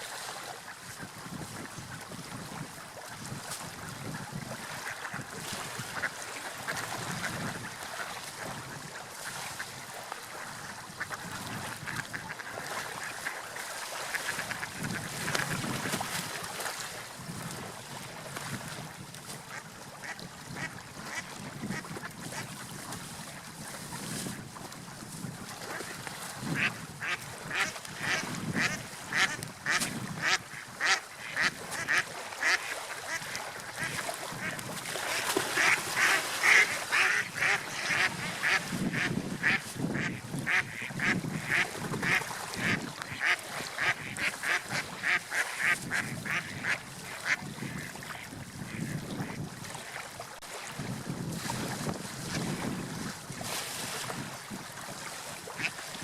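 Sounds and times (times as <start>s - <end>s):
sea waves washing: 2.3s - 56.0s.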